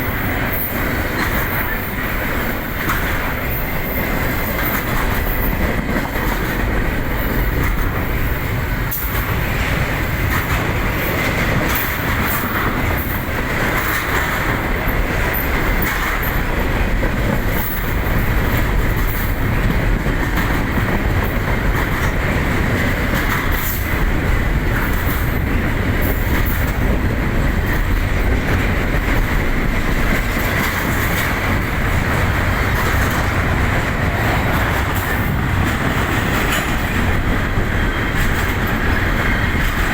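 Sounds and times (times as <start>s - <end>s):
rail joint clicks: 0.0s - 39.9s
train wheels rumbling on rails: 0.0s - 39.9s.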